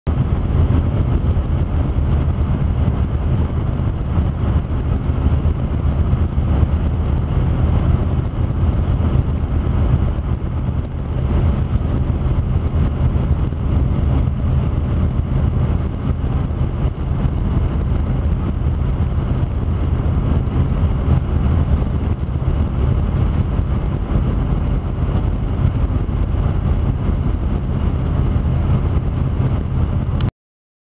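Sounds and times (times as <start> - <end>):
car driving on road: 0.1 - 30.3.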